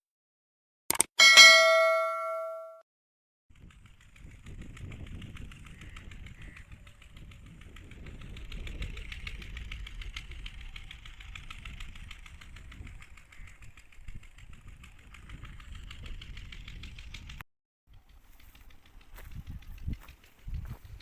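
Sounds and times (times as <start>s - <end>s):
engine knocking: 3.5s - 21.0s.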